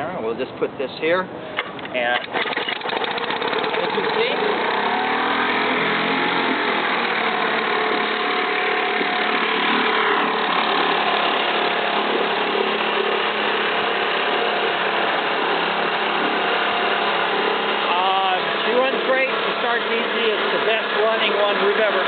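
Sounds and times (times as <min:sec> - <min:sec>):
outboard motor running: 0:01.4 - 0:22.0.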